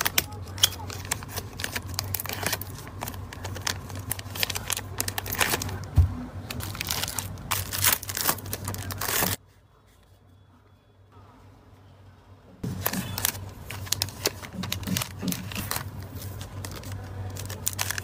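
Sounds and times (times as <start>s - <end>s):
plastic bags crinkling: 0.0s - 9.4s, 12.6s - 18.0s.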